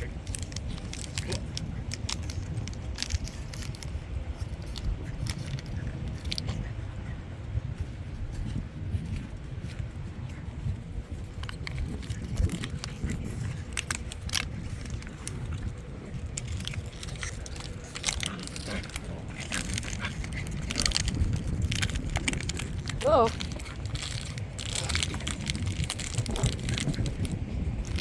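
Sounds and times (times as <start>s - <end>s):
dogs chewing toy crunching: 0.0s - 28.0s.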